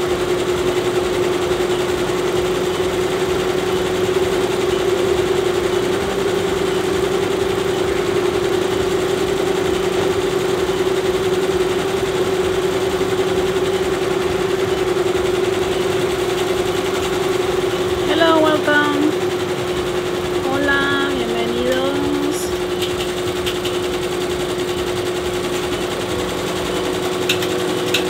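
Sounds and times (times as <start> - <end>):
embroidery machines humming: 0.0 - 28.0.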